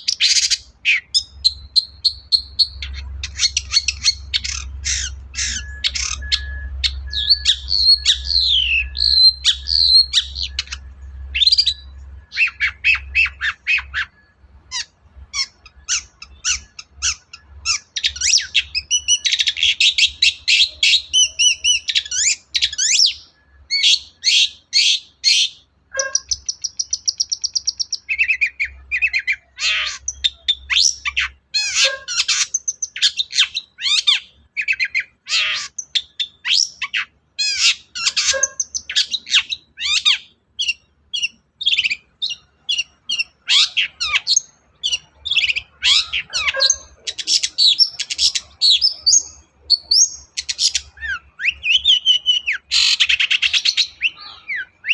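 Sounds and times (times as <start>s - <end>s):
bird song with harsh chattering: 0.0s - 54.9s.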